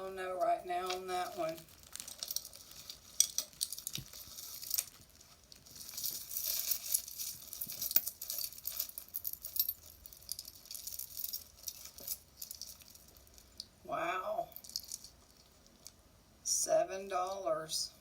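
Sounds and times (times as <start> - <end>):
jewelry clinking: 0.0 - 16.0.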